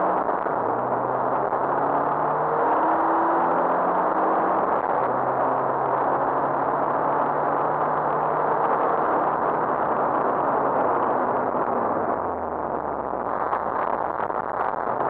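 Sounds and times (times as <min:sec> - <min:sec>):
car engine at high revs: 0:00.0 - 0:15.0
road and wind noise: 0:00.0 - 0:15.0.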